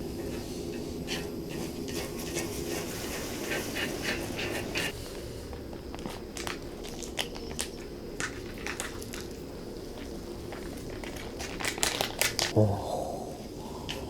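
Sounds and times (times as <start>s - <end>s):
clicks and crackles of cooking: 0.2s - 12.6s.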